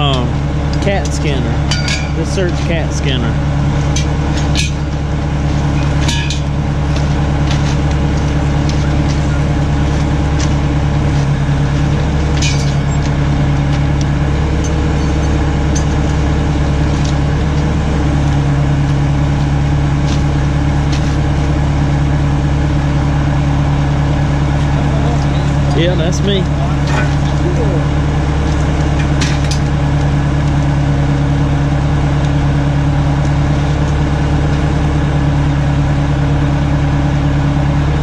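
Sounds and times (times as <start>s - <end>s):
engine humming: 0.0s - 38.0s.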